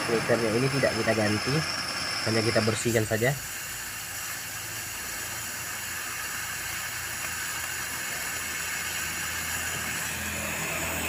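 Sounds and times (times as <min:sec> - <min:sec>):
air hissing from pipe: 0:00.0 - 0:11.0
compressor humming: 0:00.0 - 0:11.0.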